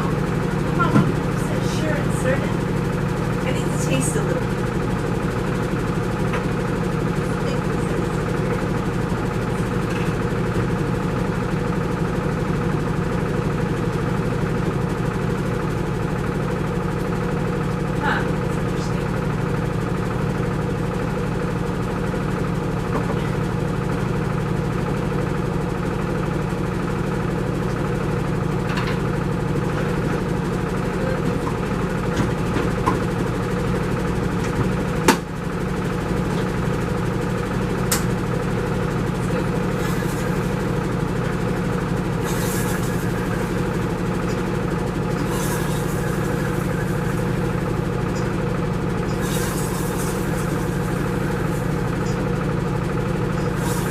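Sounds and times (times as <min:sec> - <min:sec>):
low mechanical hum: 0:00.0 - 0:53.9.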